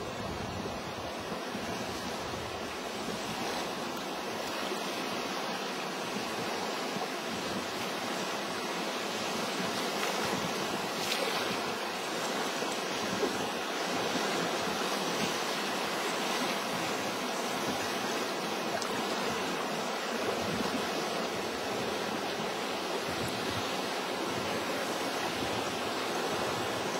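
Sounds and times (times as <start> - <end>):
fast-flowing river water: 0.0 - 26.9.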